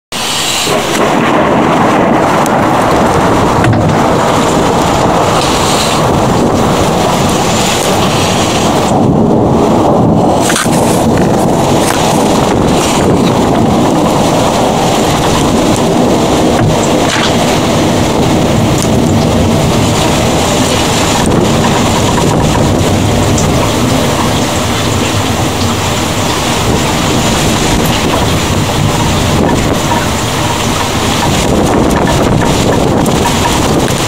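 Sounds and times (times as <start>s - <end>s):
heavy rain: 0.1s - 34.0s
raindrops tapping close by: 0.1s - 34.0s.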